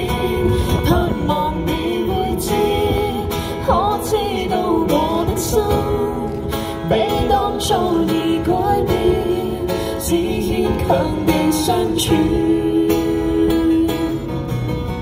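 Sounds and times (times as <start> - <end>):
person singing pop ballad: 0.0 - 14.6
acoustic guitar strumming: 0.0 - 15.0.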